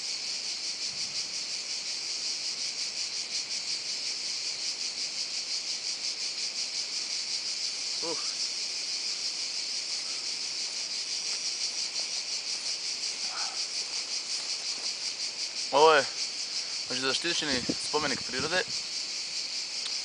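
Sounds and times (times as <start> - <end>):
insects shrilling: 0.0 - 20.0.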